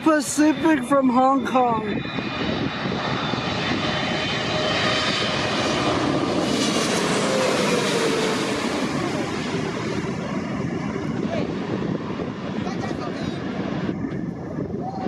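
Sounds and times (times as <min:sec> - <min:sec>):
airliner jet engines passing overhead: 0:00.0 - 0:15.0.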